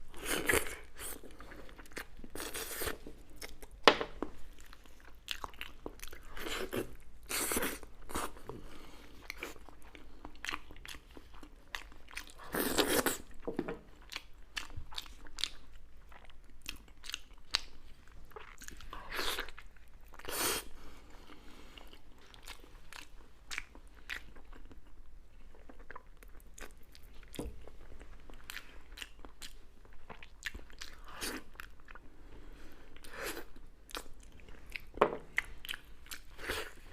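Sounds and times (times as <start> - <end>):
person chewing crunchy food: 0.1 - 32.2, 32.9 - 36.9.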